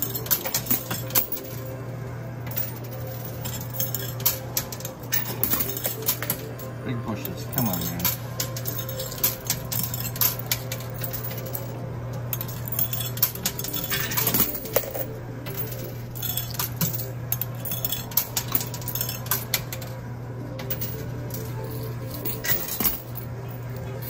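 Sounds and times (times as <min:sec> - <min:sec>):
coins clinking and sliding: 0:00.0 - 0:01.8, 0:02.4 - 0:24.0
low machine hum: 0:00.0 - 0:24.0.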